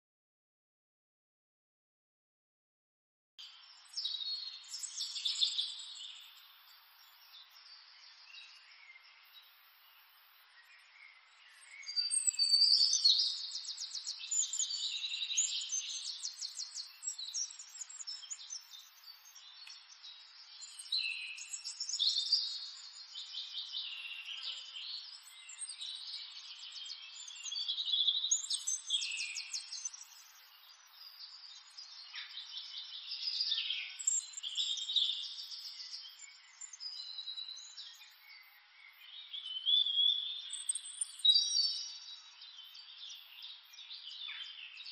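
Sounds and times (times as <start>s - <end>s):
birds singing trills and whistles: 3.4s - 44.9s.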